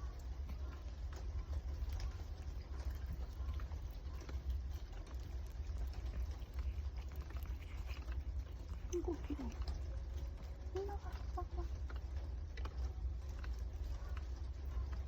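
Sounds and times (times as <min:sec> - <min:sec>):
cat chewing and smacking: 0:00.0 - 0:15.0
steady low rumble: 0:00.0 - 0:15.0.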